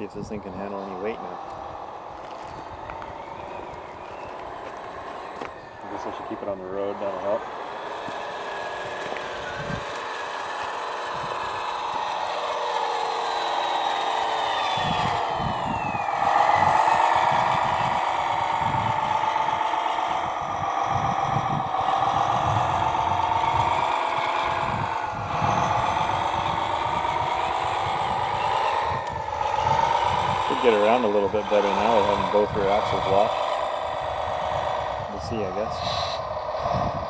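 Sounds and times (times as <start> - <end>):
drivetrain and wheels rumbling: 0.0 - 37.0
electric motor gearbox whining: 0.0 - 37.0.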